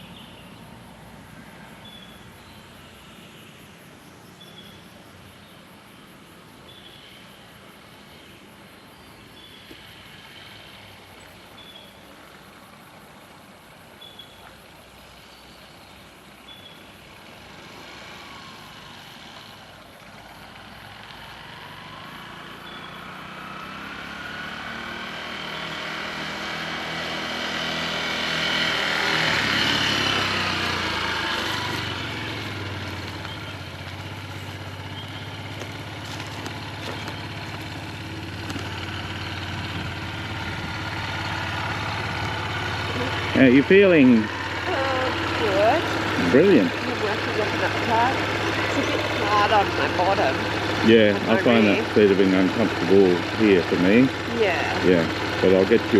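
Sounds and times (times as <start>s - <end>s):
motorcycle engine approaching: 0.0s - 55.9s.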